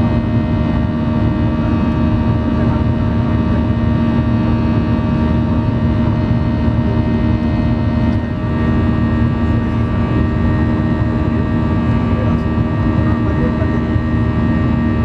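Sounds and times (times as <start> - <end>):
jet engine cabin drone: 0.0 - 15.0
whining engine tones: 0.0 - 15.0.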